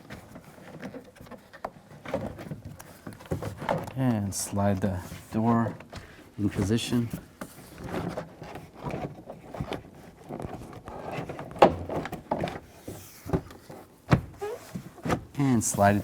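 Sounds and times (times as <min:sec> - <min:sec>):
plastic panel scraping and rustling: 0:00.0 - 0:16.0.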